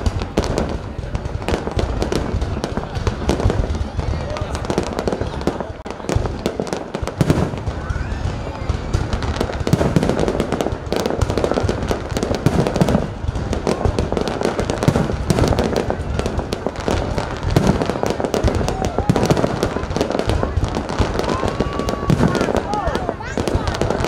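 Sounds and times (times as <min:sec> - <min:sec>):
fireworks bangs and crackling: 0:00.0 - 0:24.0
heavy firework booms: 0:00.0 - 0:24.0.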